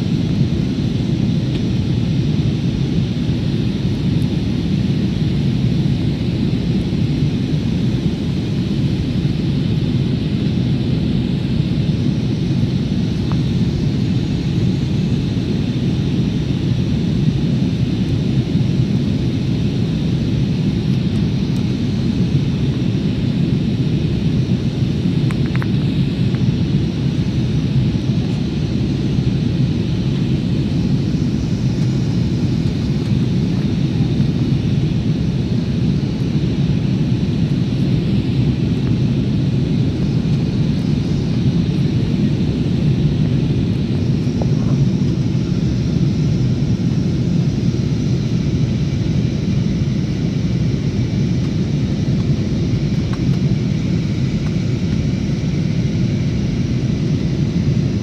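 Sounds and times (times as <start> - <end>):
jet engine cabin rumble: 0.0 - 58.0.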